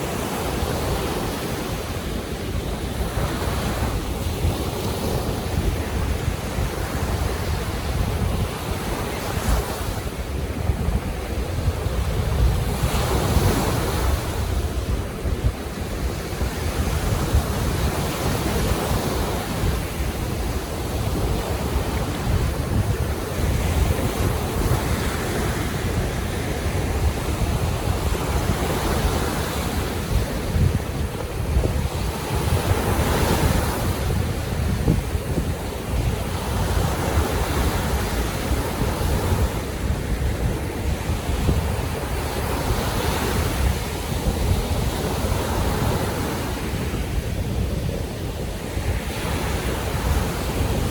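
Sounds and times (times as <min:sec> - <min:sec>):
waves washing in: 0:00.0 - 0:50.9
wind rumble on microphone: 0:00.0 - 0:50.9.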